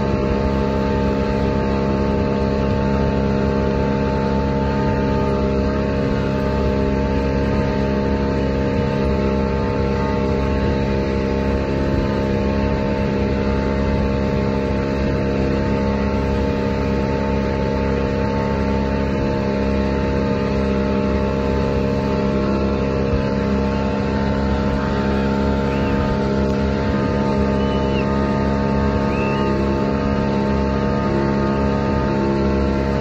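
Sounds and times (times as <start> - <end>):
outboard motor running: 0.0 - 33.0
rushing boat wake: 0.0 - 33.0.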